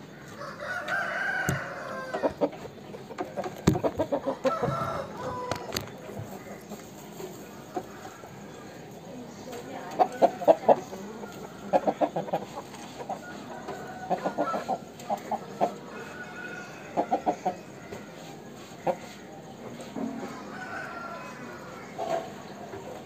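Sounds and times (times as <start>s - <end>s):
rooster clucking: 0.1s - 8.7s, 9.8s - 23.0s.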